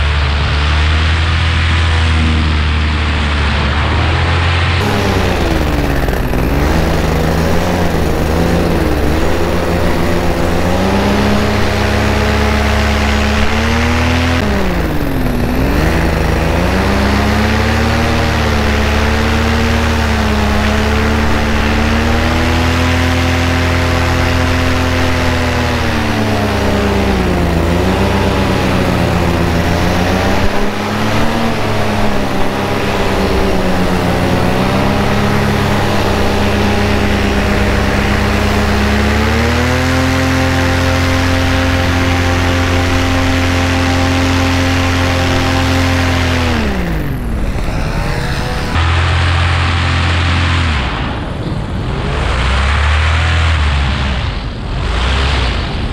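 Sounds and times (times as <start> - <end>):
paramotor engine drone: 0.0 - 55.9.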